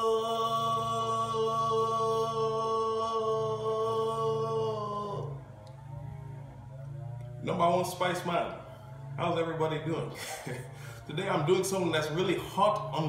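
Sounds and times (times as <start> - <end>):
man singing a long note: 0.0 - 6.7, 7.4 - 13.0.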